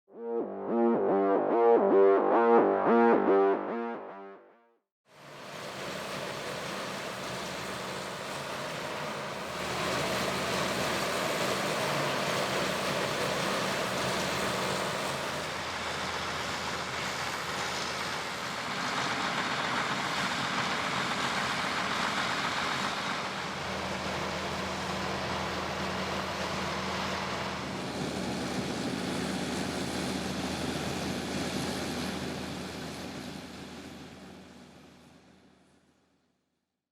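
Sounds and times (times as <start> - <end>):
engine drone: 0.1 - 4.5, 5.2 - 35.4.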